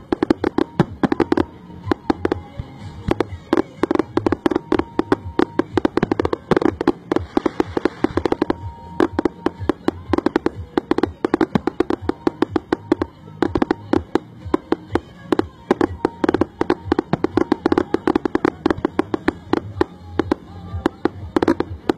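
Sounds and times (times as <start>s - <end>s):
fireworks bangs and crackles: 0.0s - 21.9s.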